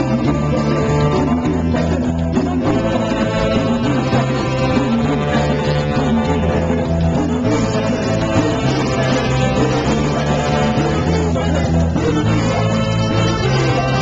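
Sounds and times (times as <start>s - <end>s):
electric guitar: 0.0s - 14.0s
live rock band playing: 0.0s - 14.0s
saxophones: 0.0s - 14.0s
walking bass line: 0.0s - 14.0s.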